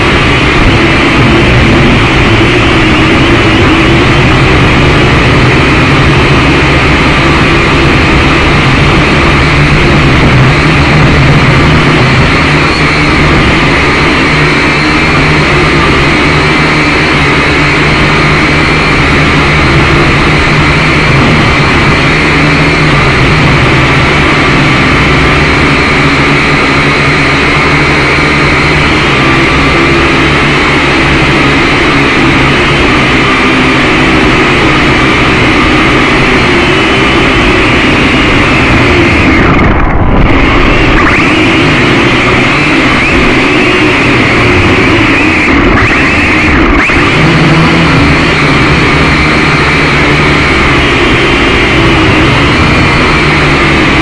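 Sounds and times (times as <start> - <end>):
drone propellers whirring: 0.0 - 54.0.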